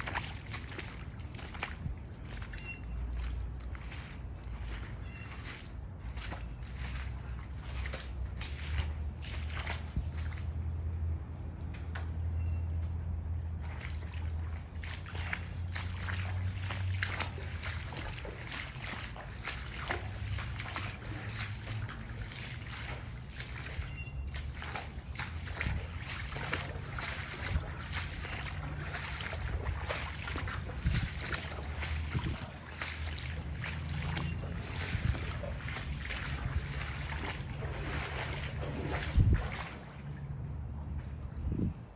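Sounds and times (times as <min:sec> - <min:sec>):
wind rumble on microphone: 0:00.0 - 0:11.3, 0:13.3 - 0:41.9
crackling splashes: 0:00.0 - 0:12.1, 0:13.4 - 0:41.0
floodwater and mud sloshing: 0:00.0 - 0:41.9.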